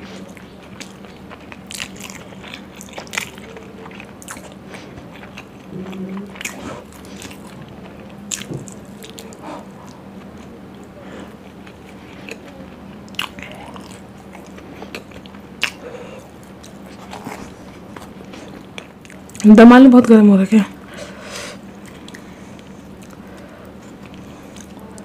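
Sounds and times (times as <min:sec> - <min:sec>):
wet chewing and mouth smacks: 0:00.0 - 0:19.4, 0:21.7 - 0:25.0.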